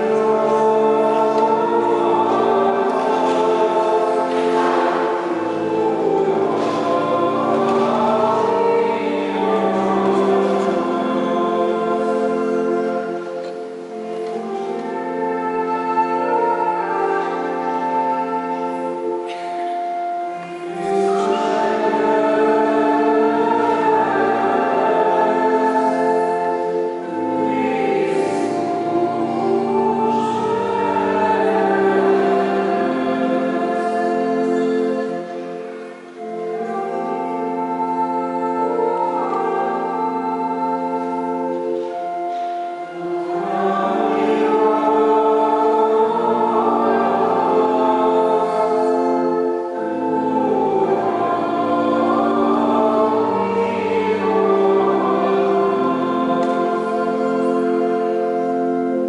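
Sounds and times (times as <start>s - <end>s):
choir singing a slow chant: 0.0s - 59.0s.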